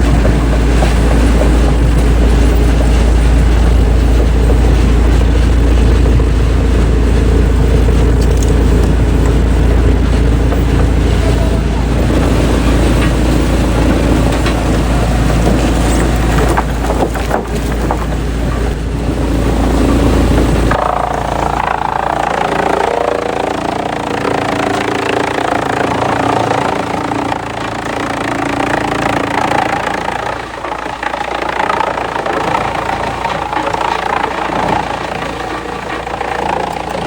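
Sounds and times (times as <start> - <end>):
deep engine rumble: 0.0 - 37.0
machine whine with clatter: 0.0 - 37.0.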